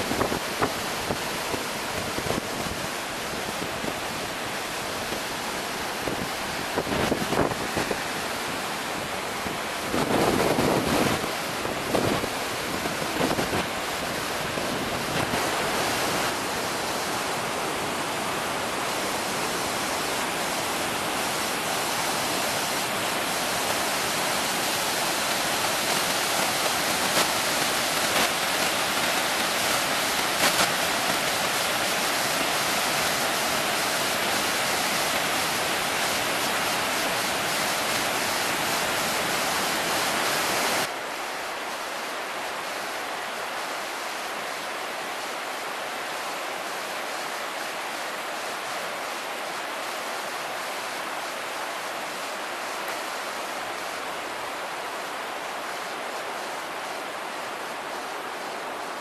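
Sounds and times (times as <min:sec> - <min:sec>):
river rapids roaring: 0:00.0 - 0:59.0.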